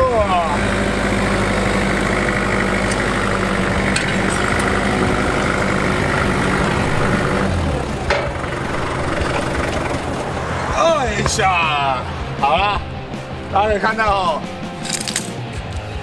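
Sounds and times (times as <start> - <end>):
forklift engine running: 0.0 - 15.4.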